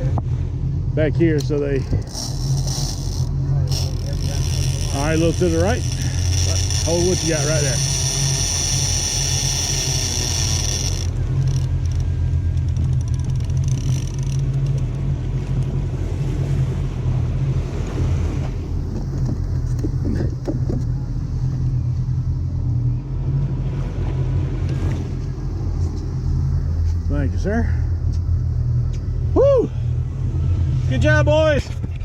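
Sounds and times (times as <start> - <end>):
boat engine rumbling: 0.0 - 32.0.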